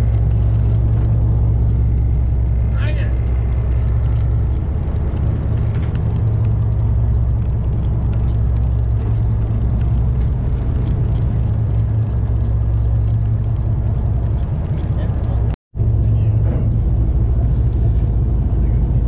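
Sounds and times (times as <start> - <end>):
boat engines rumbling: 0.0 - 19.0.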